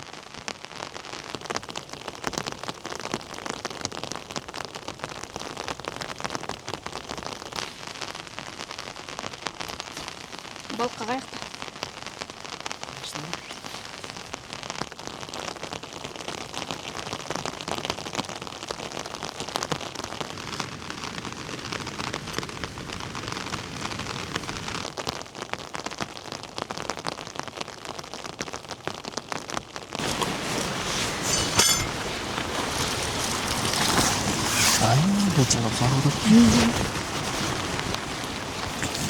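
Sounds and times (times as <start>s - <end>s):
heavy rain pattering: 0.0s - 39.0s.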